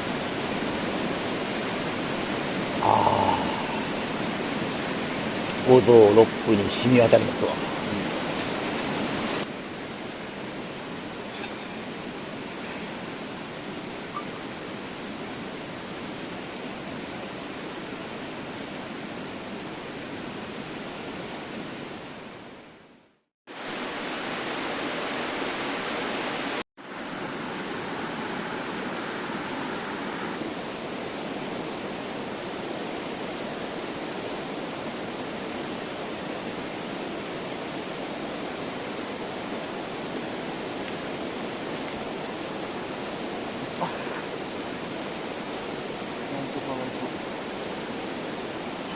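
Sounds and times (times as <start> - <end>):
mountain stream rushing: 0.0 - 48.9.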